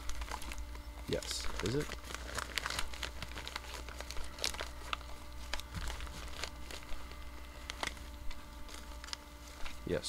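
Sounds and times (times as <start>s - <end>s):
paper envelope crinkling: 0.0s - 10.0s
sharp paper crackles: 0.0s - 10.0s.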